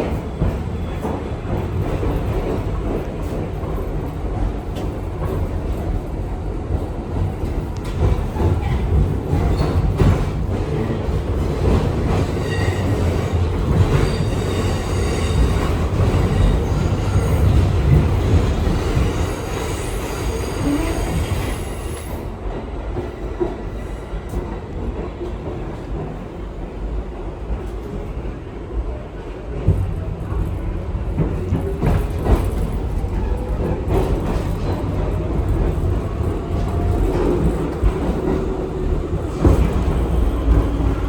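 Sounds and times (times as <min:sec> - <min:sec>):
subway train rumbling on rails: 0:00.0 - 0:41.0.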